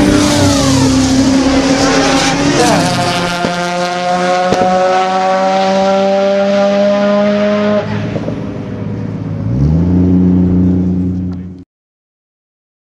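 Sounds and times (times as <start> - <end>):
engine revving: 0.0 - 8.4, 9.4 - 11.6
car engine at full throttle: 0.0 - 11.6.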